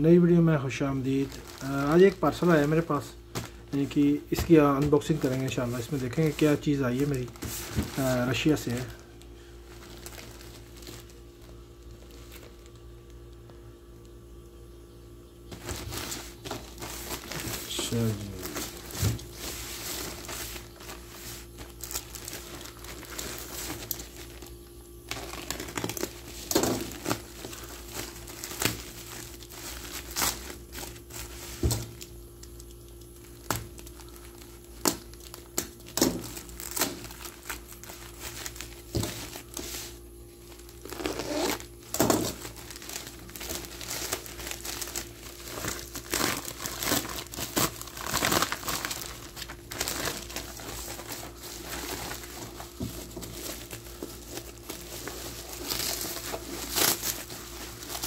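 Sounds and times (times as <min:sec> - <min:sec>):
plastic mailer bag crinkling and tearing: 0:00.0 - 0:14.2, 0:15.5 - 0:58.0
bubble wrap rustling: 0:00.0 - 0:14.5, 0:15.4 - 0:58.0.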